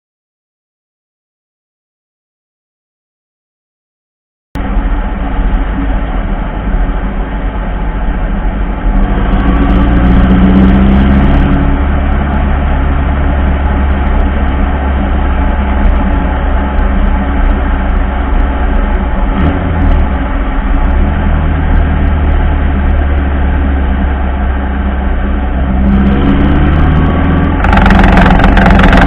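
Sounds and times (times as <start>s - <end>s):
buggy engine and drivetrain: 4.6s - 29.0s.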